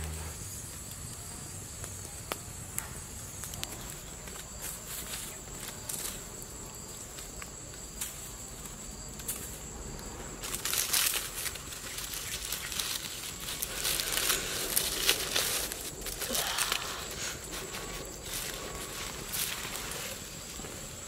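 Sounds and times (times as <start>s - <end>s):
leaves rustling and crinkling: 0.0s - 21.0s.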